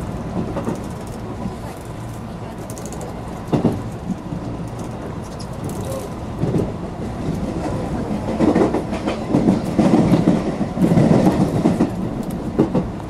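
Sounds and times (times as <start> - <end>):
train running rumble: 0.0 - 13.0
train wheels clattering over rail joints: 0.3 - 13.0.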